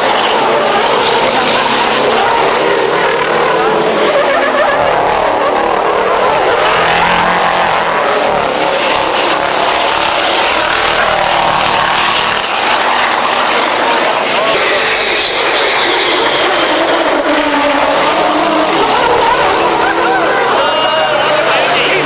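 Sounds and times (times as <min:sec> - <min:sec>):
diesel truck engines running hard: 0:00.0 - 0:22.0.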